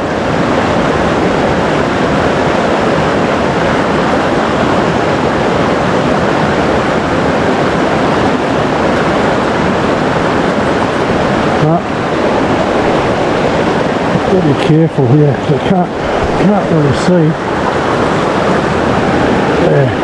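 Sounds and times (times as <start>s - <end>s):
river water running over stones: 0.0s - 20.0s.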